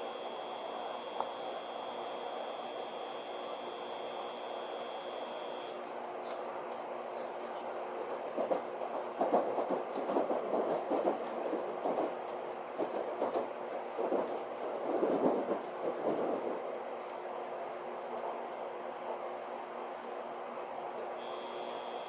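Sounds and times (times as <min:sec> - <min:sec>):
train running hum: 0:00.0 - 0:22.0.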